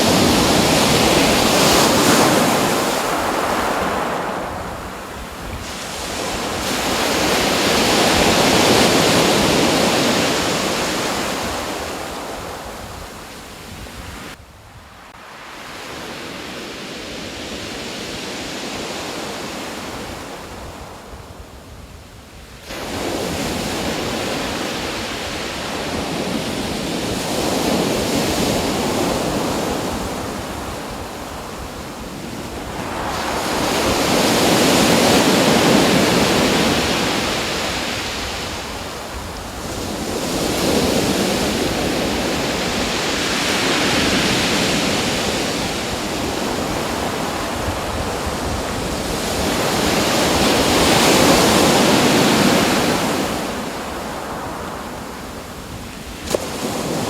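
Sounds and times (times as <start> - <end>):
ocean surf washing onto shore: 0.0 - 21.6, 22.2 - 57.0.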